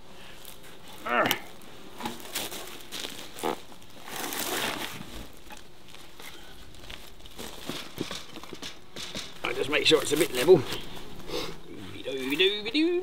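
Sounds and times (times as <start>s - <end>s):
rustling and handling noises: 0.0s - 13.0s.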